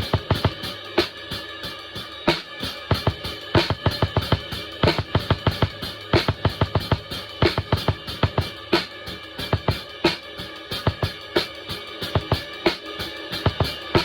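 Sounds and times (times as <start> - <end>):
drum kit groove: 0.0 - 14.0.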